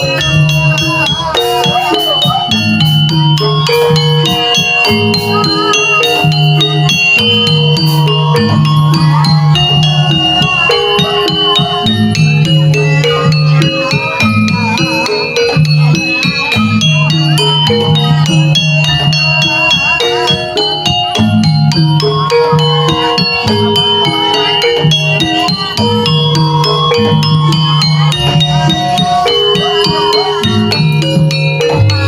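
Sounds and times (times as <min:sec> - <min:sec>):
metallophones ringing: 0:00.0 - 0:32.0
rattling percussion: 0:00.0 - 0:32.0.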